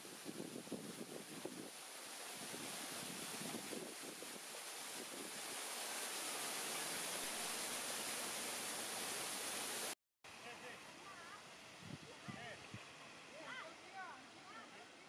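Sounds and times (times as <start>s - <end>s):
outdoor rushing noise with hiss: 0.0s - 15.0s.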